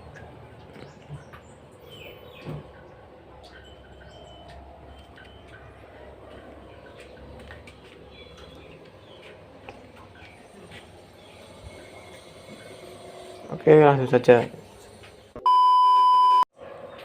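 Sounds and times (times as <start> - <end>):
birds chirping faintly: 0.0 - 15.3.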